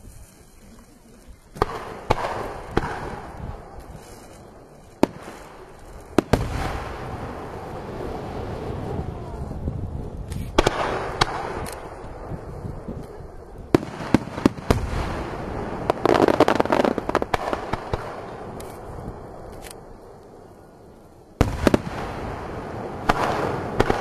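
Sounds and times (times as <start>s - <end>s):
firework crackle: 0.0s - 24.0s.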